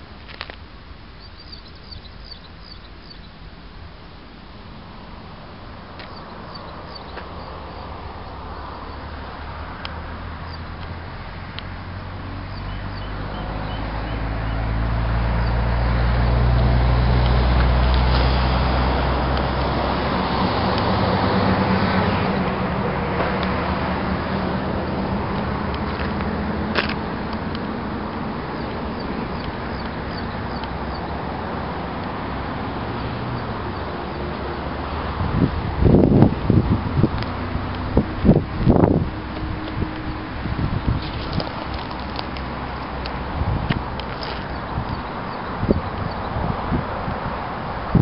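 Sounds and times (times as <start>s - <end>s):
vehicle engine humming: 0.0s - 48.0s.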